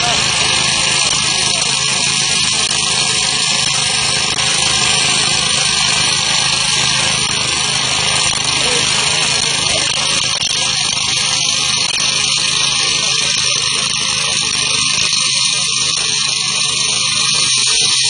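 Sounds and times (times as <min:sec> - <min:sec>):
core drill cutting concrete: 0:00.0 - 0:18.0.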